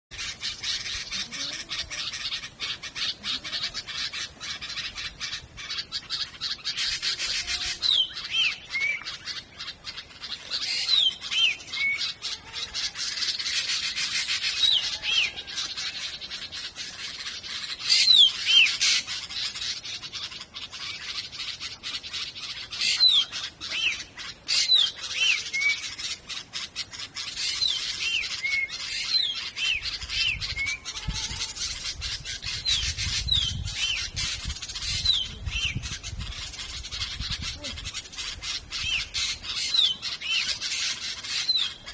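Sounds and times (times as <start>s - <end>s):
birds chattering: 0.1s - 41.9s
falling whistled bird calls: 0.1s - 41.9s.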